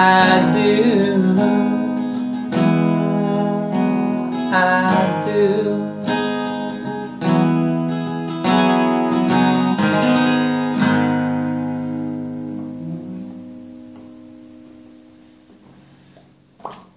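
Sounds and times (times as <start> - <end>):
acoustic guitar strumming chords: 0.0 - 16.8.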